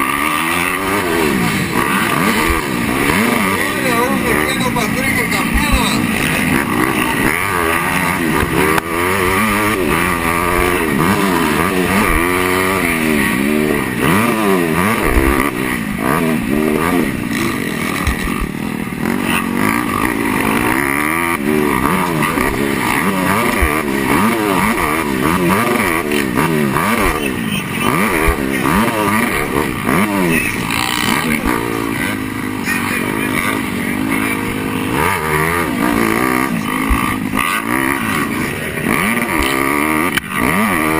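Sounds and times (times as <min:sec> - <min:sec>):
motocross bike engine revving: 0:00.0 - 0:40.9
wind and riding noise: 0:00.0 - 0:40.9.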